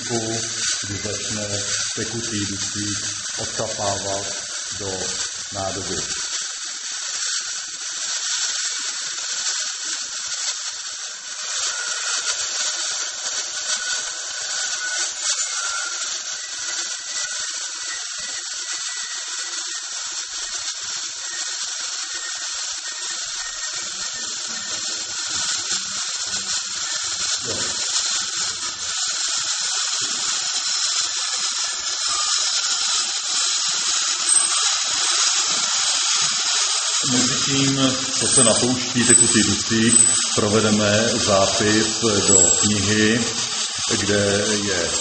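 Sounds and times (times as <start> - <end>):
high hiss of boiling nitrogen gas: 0.0 - 45.0.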